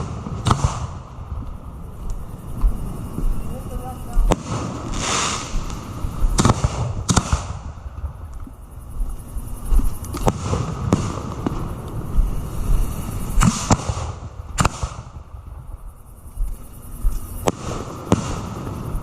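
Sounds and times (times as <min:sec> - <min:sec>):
fireworks rumble and crackle: 0:00.0 - 0:19.0.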